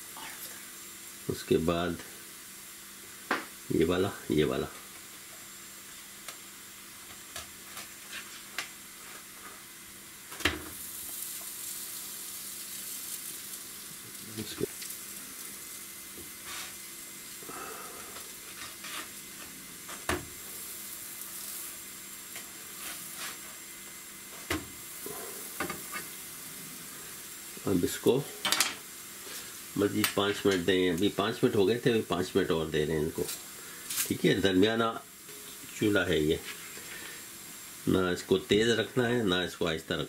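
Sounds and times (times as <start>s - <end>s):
flatbreads sizzling in frying pan: 0.0s - 40.0s.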